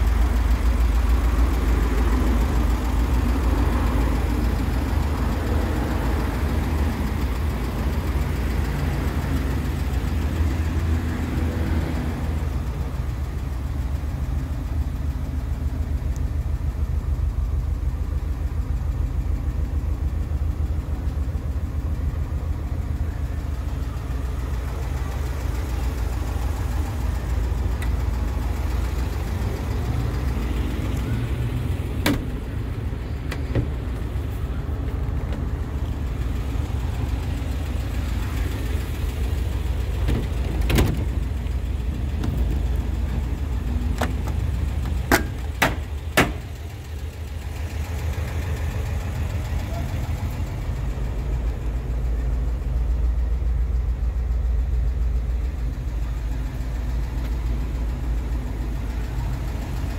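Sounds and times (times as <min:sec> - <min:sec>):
van engine idling: 0:00.0 - 0:59.9.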